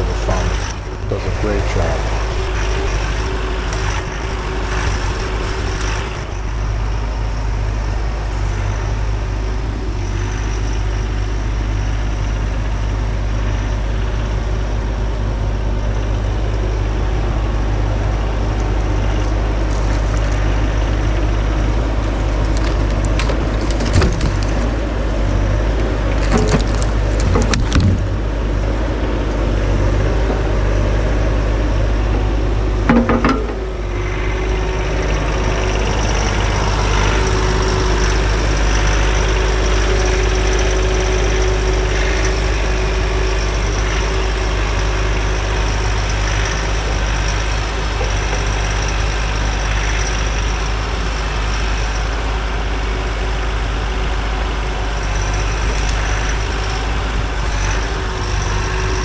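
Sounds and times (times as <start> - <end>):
diesel engine running: 0.0 - 59.0
hydraulic whine: 0.0 - 59.0.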